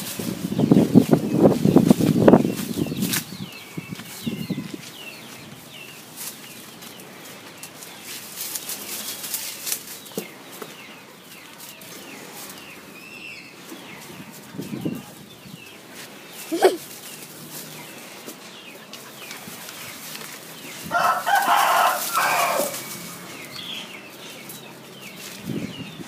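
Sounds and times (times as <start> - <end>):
rustling leaves and snapping twigs: 0.0 - 26.0
small birds chirping: 0.0 - 26.0.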